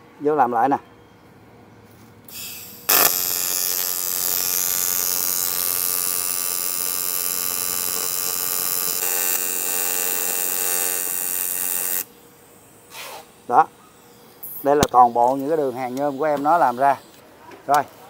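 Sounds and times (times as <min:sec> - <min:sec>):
welding arc buzzing: 0:02.3 - 0:17.2
welding hiss: 0:02.3 - 0:17.2.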